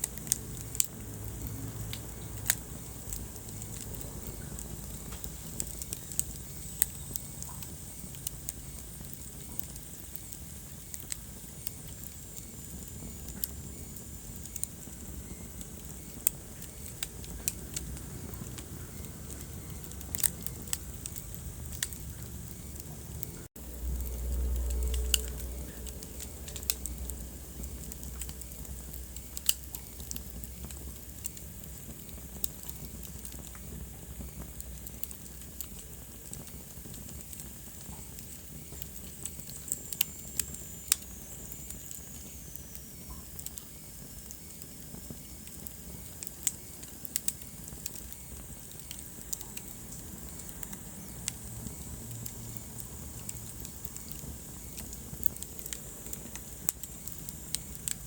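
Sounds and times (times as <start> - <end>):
fire crackling and popping: 0.0 - 58.0
fire hissing: 0.0 - 58.0.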